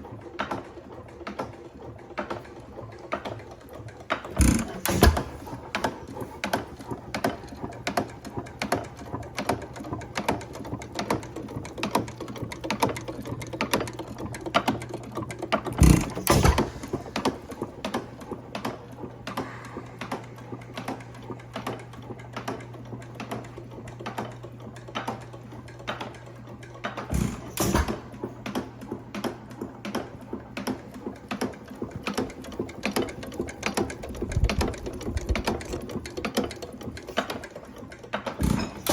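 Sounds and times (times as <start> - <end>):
gas engine fast clicking: 0.4 - 38.9.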